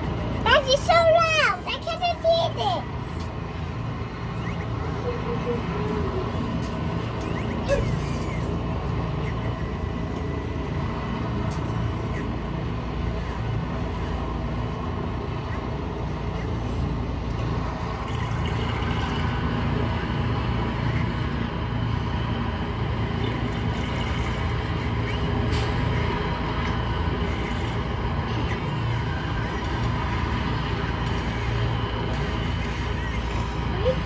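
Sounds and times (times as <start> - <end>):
helicopter engine and rotors droning: 0.0 - 34.0.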